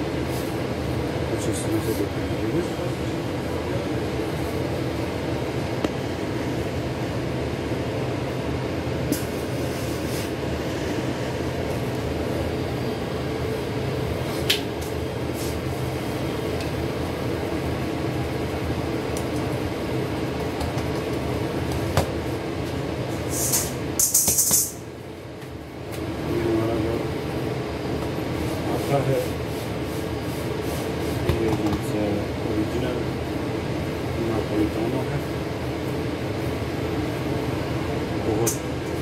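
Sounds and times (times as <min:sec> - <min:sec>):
kitchen machinery hum: 0:00.0 - 0:39.0.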